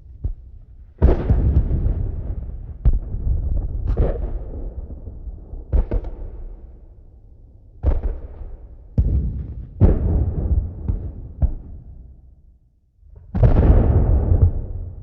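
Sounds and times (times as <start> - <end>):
explosion blasts with rumble: 0.2 - 7.0, 7.8 - 12.2, 13.1 - 15.0.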